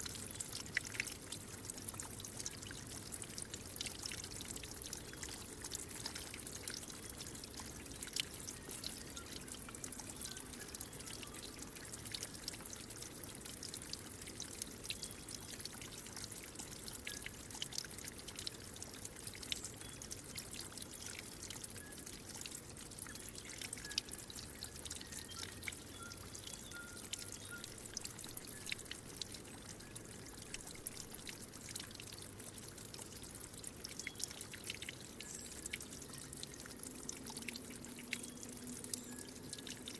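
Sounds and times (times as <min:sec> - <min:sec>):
water drips: 0:00.0 - 0:39.9
water trickling and splashing: 0:00.0 - 0:39.9.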